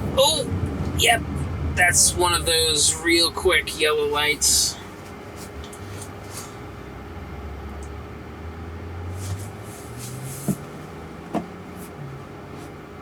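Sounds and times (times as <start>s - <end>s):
car cabin low hum: 0.0s - 13.0s.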